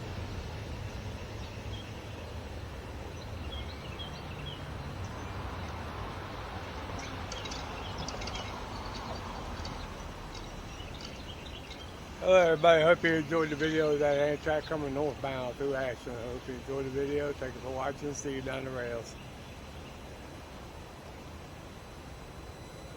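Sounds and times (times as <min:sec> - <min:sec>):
birds chirping: 0:00.0 - 0:22.9
low outdoor rumble: 0:00.0 - 0:22.9.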